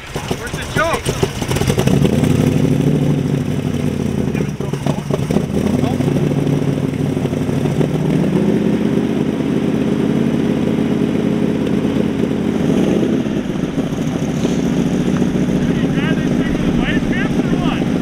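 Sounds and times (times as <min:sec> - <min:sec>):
engine idling with open exhaust: 0:00.0 - 0:18.0.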